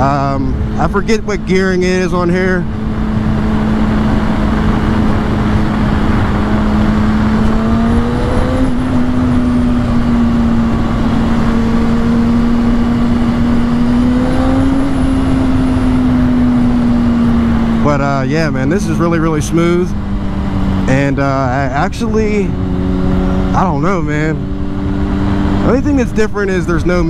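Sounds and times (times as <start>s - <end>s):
motorcycle engine cruising: 0.0s - 27.0s
wind and road noise: 0.0s - 27.0s.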